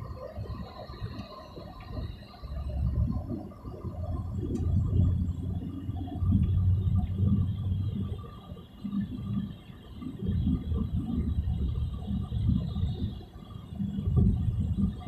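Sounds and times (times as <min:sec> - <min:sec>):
wind and road noise in car: 0:00.0 - 0:15.0.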